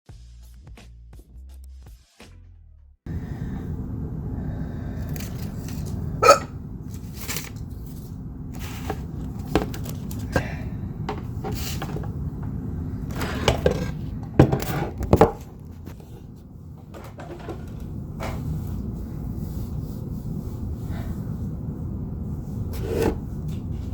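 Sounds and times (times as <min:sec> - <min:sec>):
steady low hum: 0:03.1 - 0:23.9.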